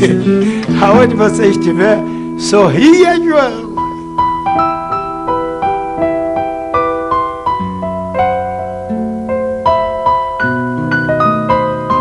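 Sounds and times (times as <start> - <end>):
electronic keyboard melody: 0.0 - 12.0
held bass notes: 0.0 - 12.0.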